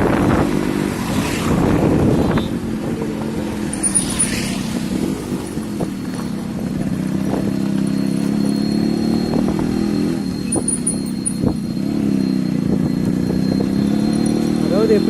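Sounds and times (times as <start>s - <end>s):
wind buffeting microphone: 0.0s - 14.0s
two-stroke motorcycle engine running: 2.6s - 15.0s.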